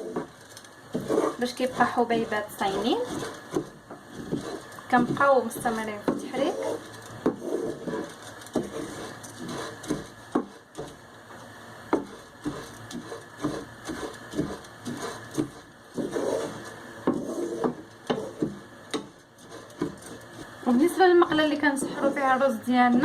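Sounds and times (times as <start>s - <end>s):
utensil scraping rice in frying pan: 0.0s - 11.0s, 11.9s - 23.0s.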